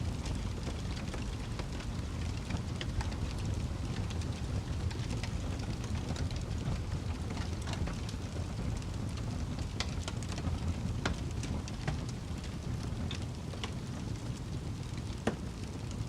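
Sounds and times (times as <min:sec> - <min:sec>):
fire rumble: 0:00.0 - 0:16.0
fire pops and snaps: 0:00.1 - 0:16.0.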